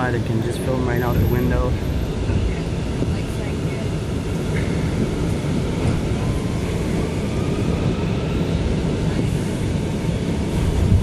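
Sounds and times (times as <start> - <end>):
subway train rumbling on track: 0.0 - 11.0.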